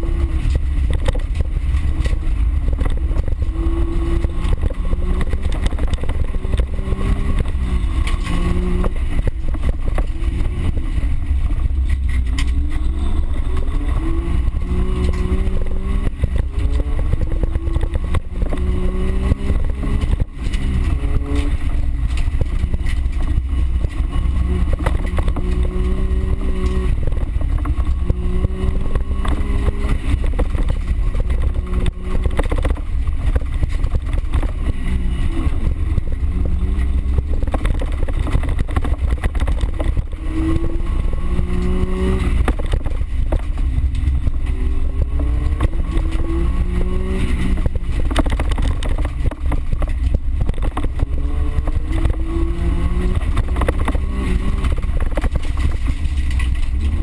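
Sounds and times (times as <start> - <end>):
heavy low rumble: 0.0 - 57.0
knocks and rattles: 0.0 - 57.0
racing engine accelerating and shifting: 0.0 - 57.0.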